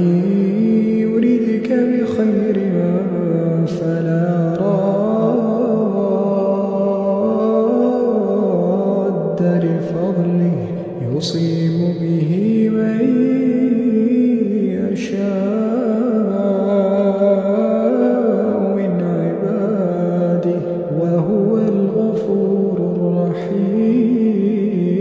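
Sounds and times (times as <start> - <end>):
person chanting: 0.0 - 25.0.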